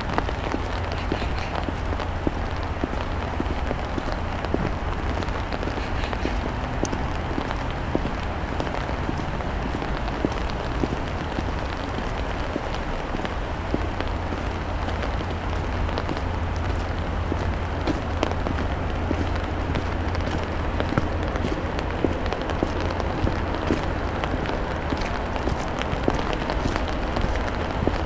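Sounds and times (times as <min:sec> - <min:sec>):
rain and wet snow falling: 0:00.0 - 0:28.0.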